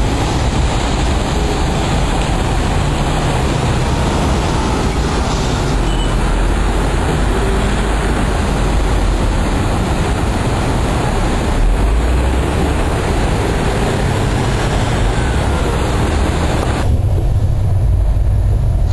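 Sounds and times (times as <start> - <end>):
vehicle rumbling and rolling: 0.0 - 18.9.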